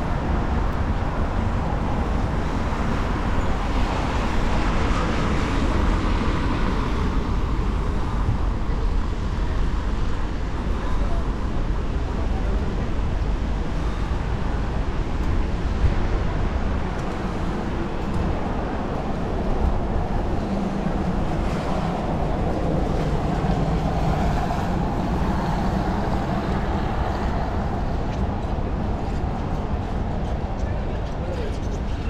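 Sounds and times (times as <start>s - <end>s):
traffic on wet roads: 0.0s - 32.0s
wind rumble on microphone: 0.0s - 32.0s.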